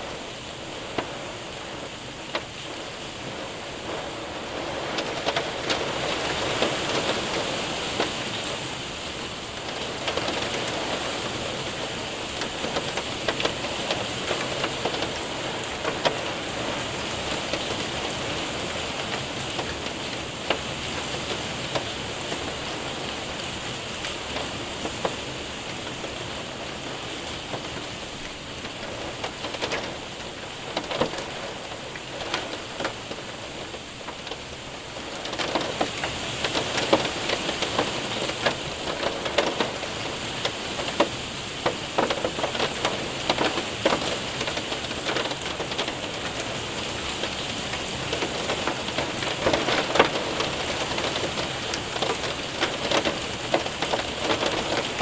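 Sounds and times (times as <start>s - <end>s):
rain on window and roof: 0.0s - 55.0s
hailstones striking: 3.3s - 55.0s.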